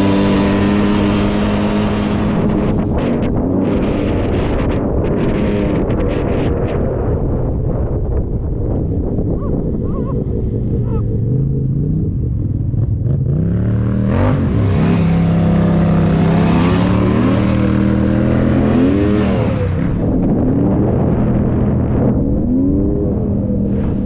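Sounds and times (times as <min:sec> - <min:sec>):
atv engine revving: 0:00.0 - 0:06.4, 0:09.4 - 0:24.0.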